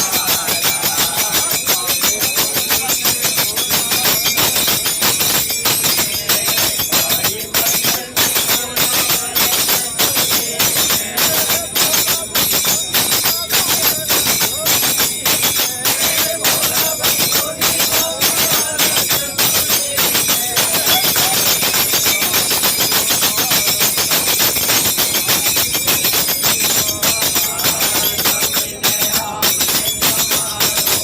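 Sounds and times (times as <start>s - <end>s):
jingling hand percussion: 0.0s - 31.0s.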